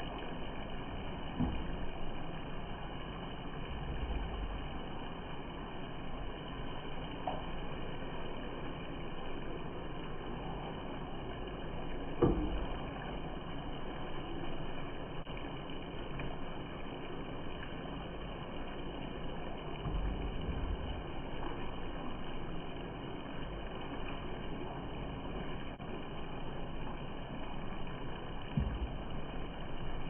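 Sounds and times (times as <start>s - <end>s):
low sizzling hiss: 0.0s - 30.0s.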